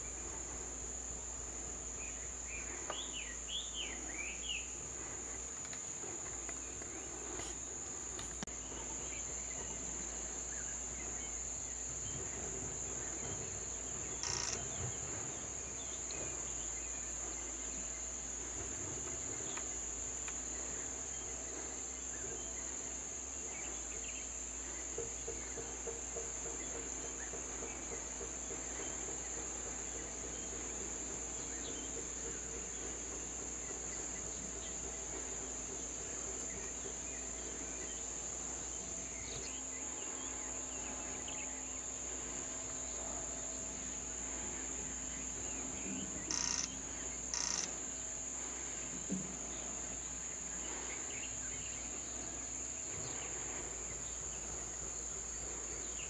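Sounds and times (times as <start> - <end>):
insect high-pitched trill: 0.0 - 56.0.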